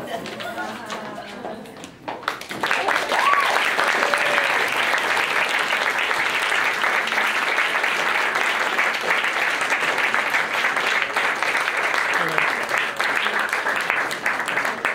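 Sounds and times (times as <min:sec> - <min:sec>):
audience applauding: 0:02.2 - 0:14.9.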